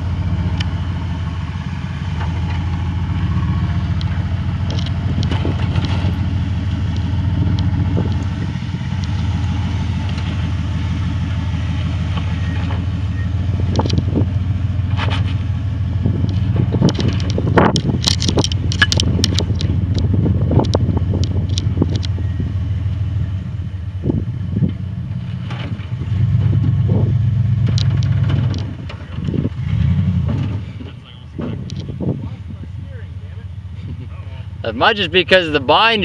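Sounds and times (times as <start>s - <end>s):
engine running at low speed: 0.0s - 36.0s.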